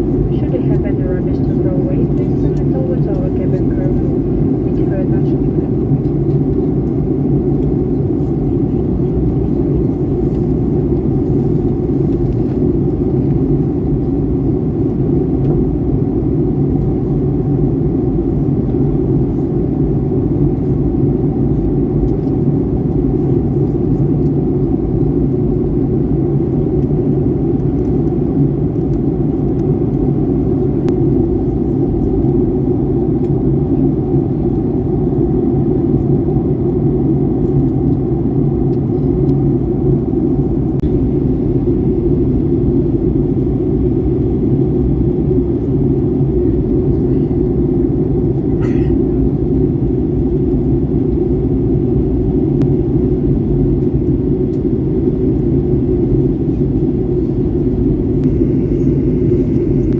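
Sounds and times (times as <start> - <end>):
jet engine roar in airliner cabin: 0.0 - 59.9.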